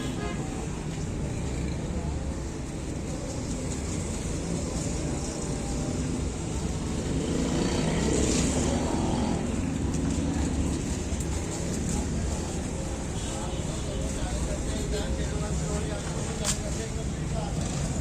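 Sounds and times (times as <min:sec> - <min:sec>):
road traffic: 0:00.0 - 0:18.0.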